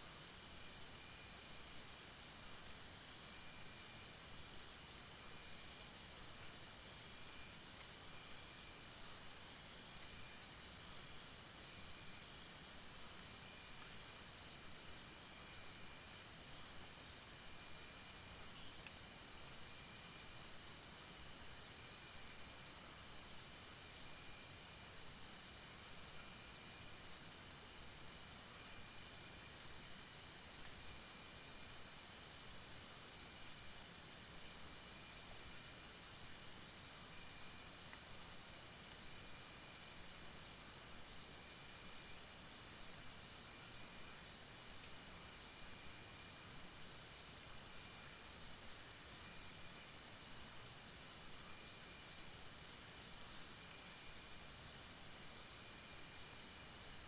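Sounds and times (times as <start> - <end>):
low hiss: 0.0 - 57.0
thin steady insect tone: 0.0 - 57.0
insects pulsing trill: 0.2 - 57.0.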